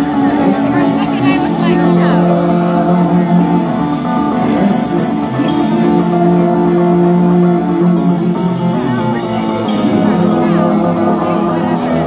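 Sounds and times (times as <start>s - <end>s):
live rock band electric guitar: 0.0s - 12.0s.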